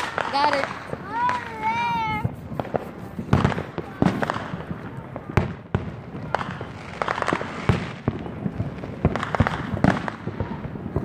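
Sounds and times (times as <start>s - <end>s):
fireworks bangs and crackling pops: 0.0s - 11.0s.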